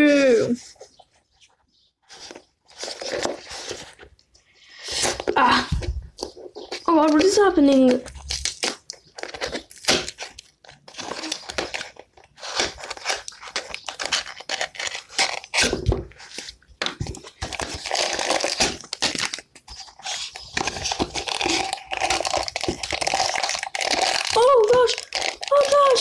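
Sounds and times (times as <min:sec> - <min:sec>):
packaging crinkling and tearing: 0:02.1 - 0:26.0.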